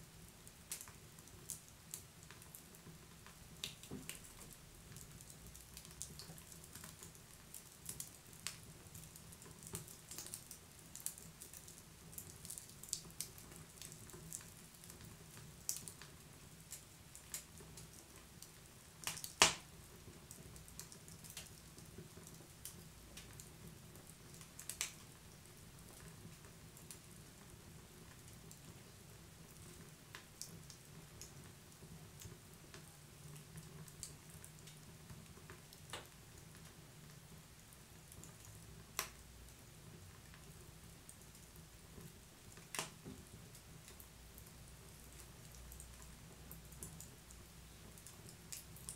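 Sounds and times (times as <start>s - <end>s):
campfire crackling: 0.4s - 48.9s.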